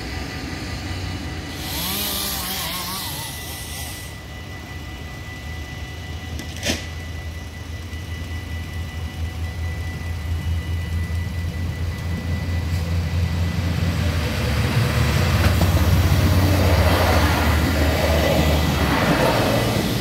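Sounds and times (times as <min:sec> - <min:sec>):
diesel railcar passing: 0:00.0 - 0:02.0, 0:03.8 - 0:20.0.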